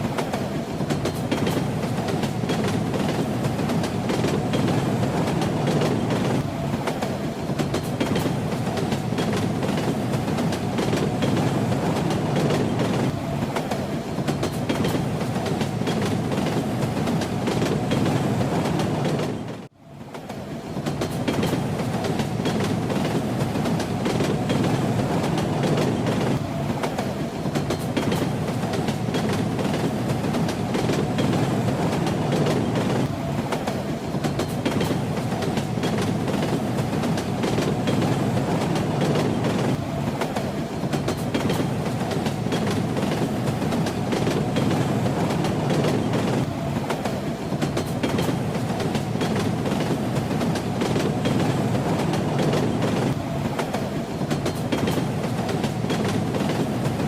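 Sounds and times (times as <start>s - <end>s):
train rumbling: 0.0s - 57.0s
wheels clacking on rails: 0.0s - 57.0s.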